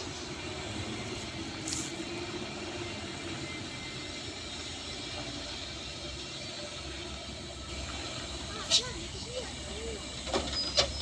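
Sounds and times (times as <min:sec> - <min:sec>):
truck running: 0:00.0 - 0:11.0.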